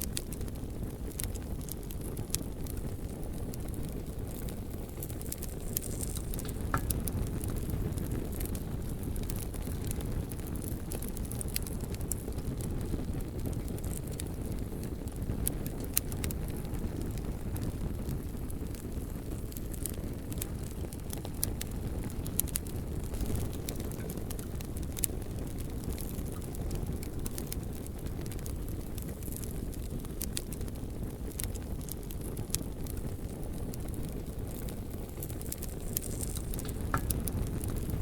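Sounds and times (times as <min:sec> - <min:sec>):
fire crackling and popping: 0:00.0 - 0:38.0
low rumble of flames: 0:00.0 - 0:38.0.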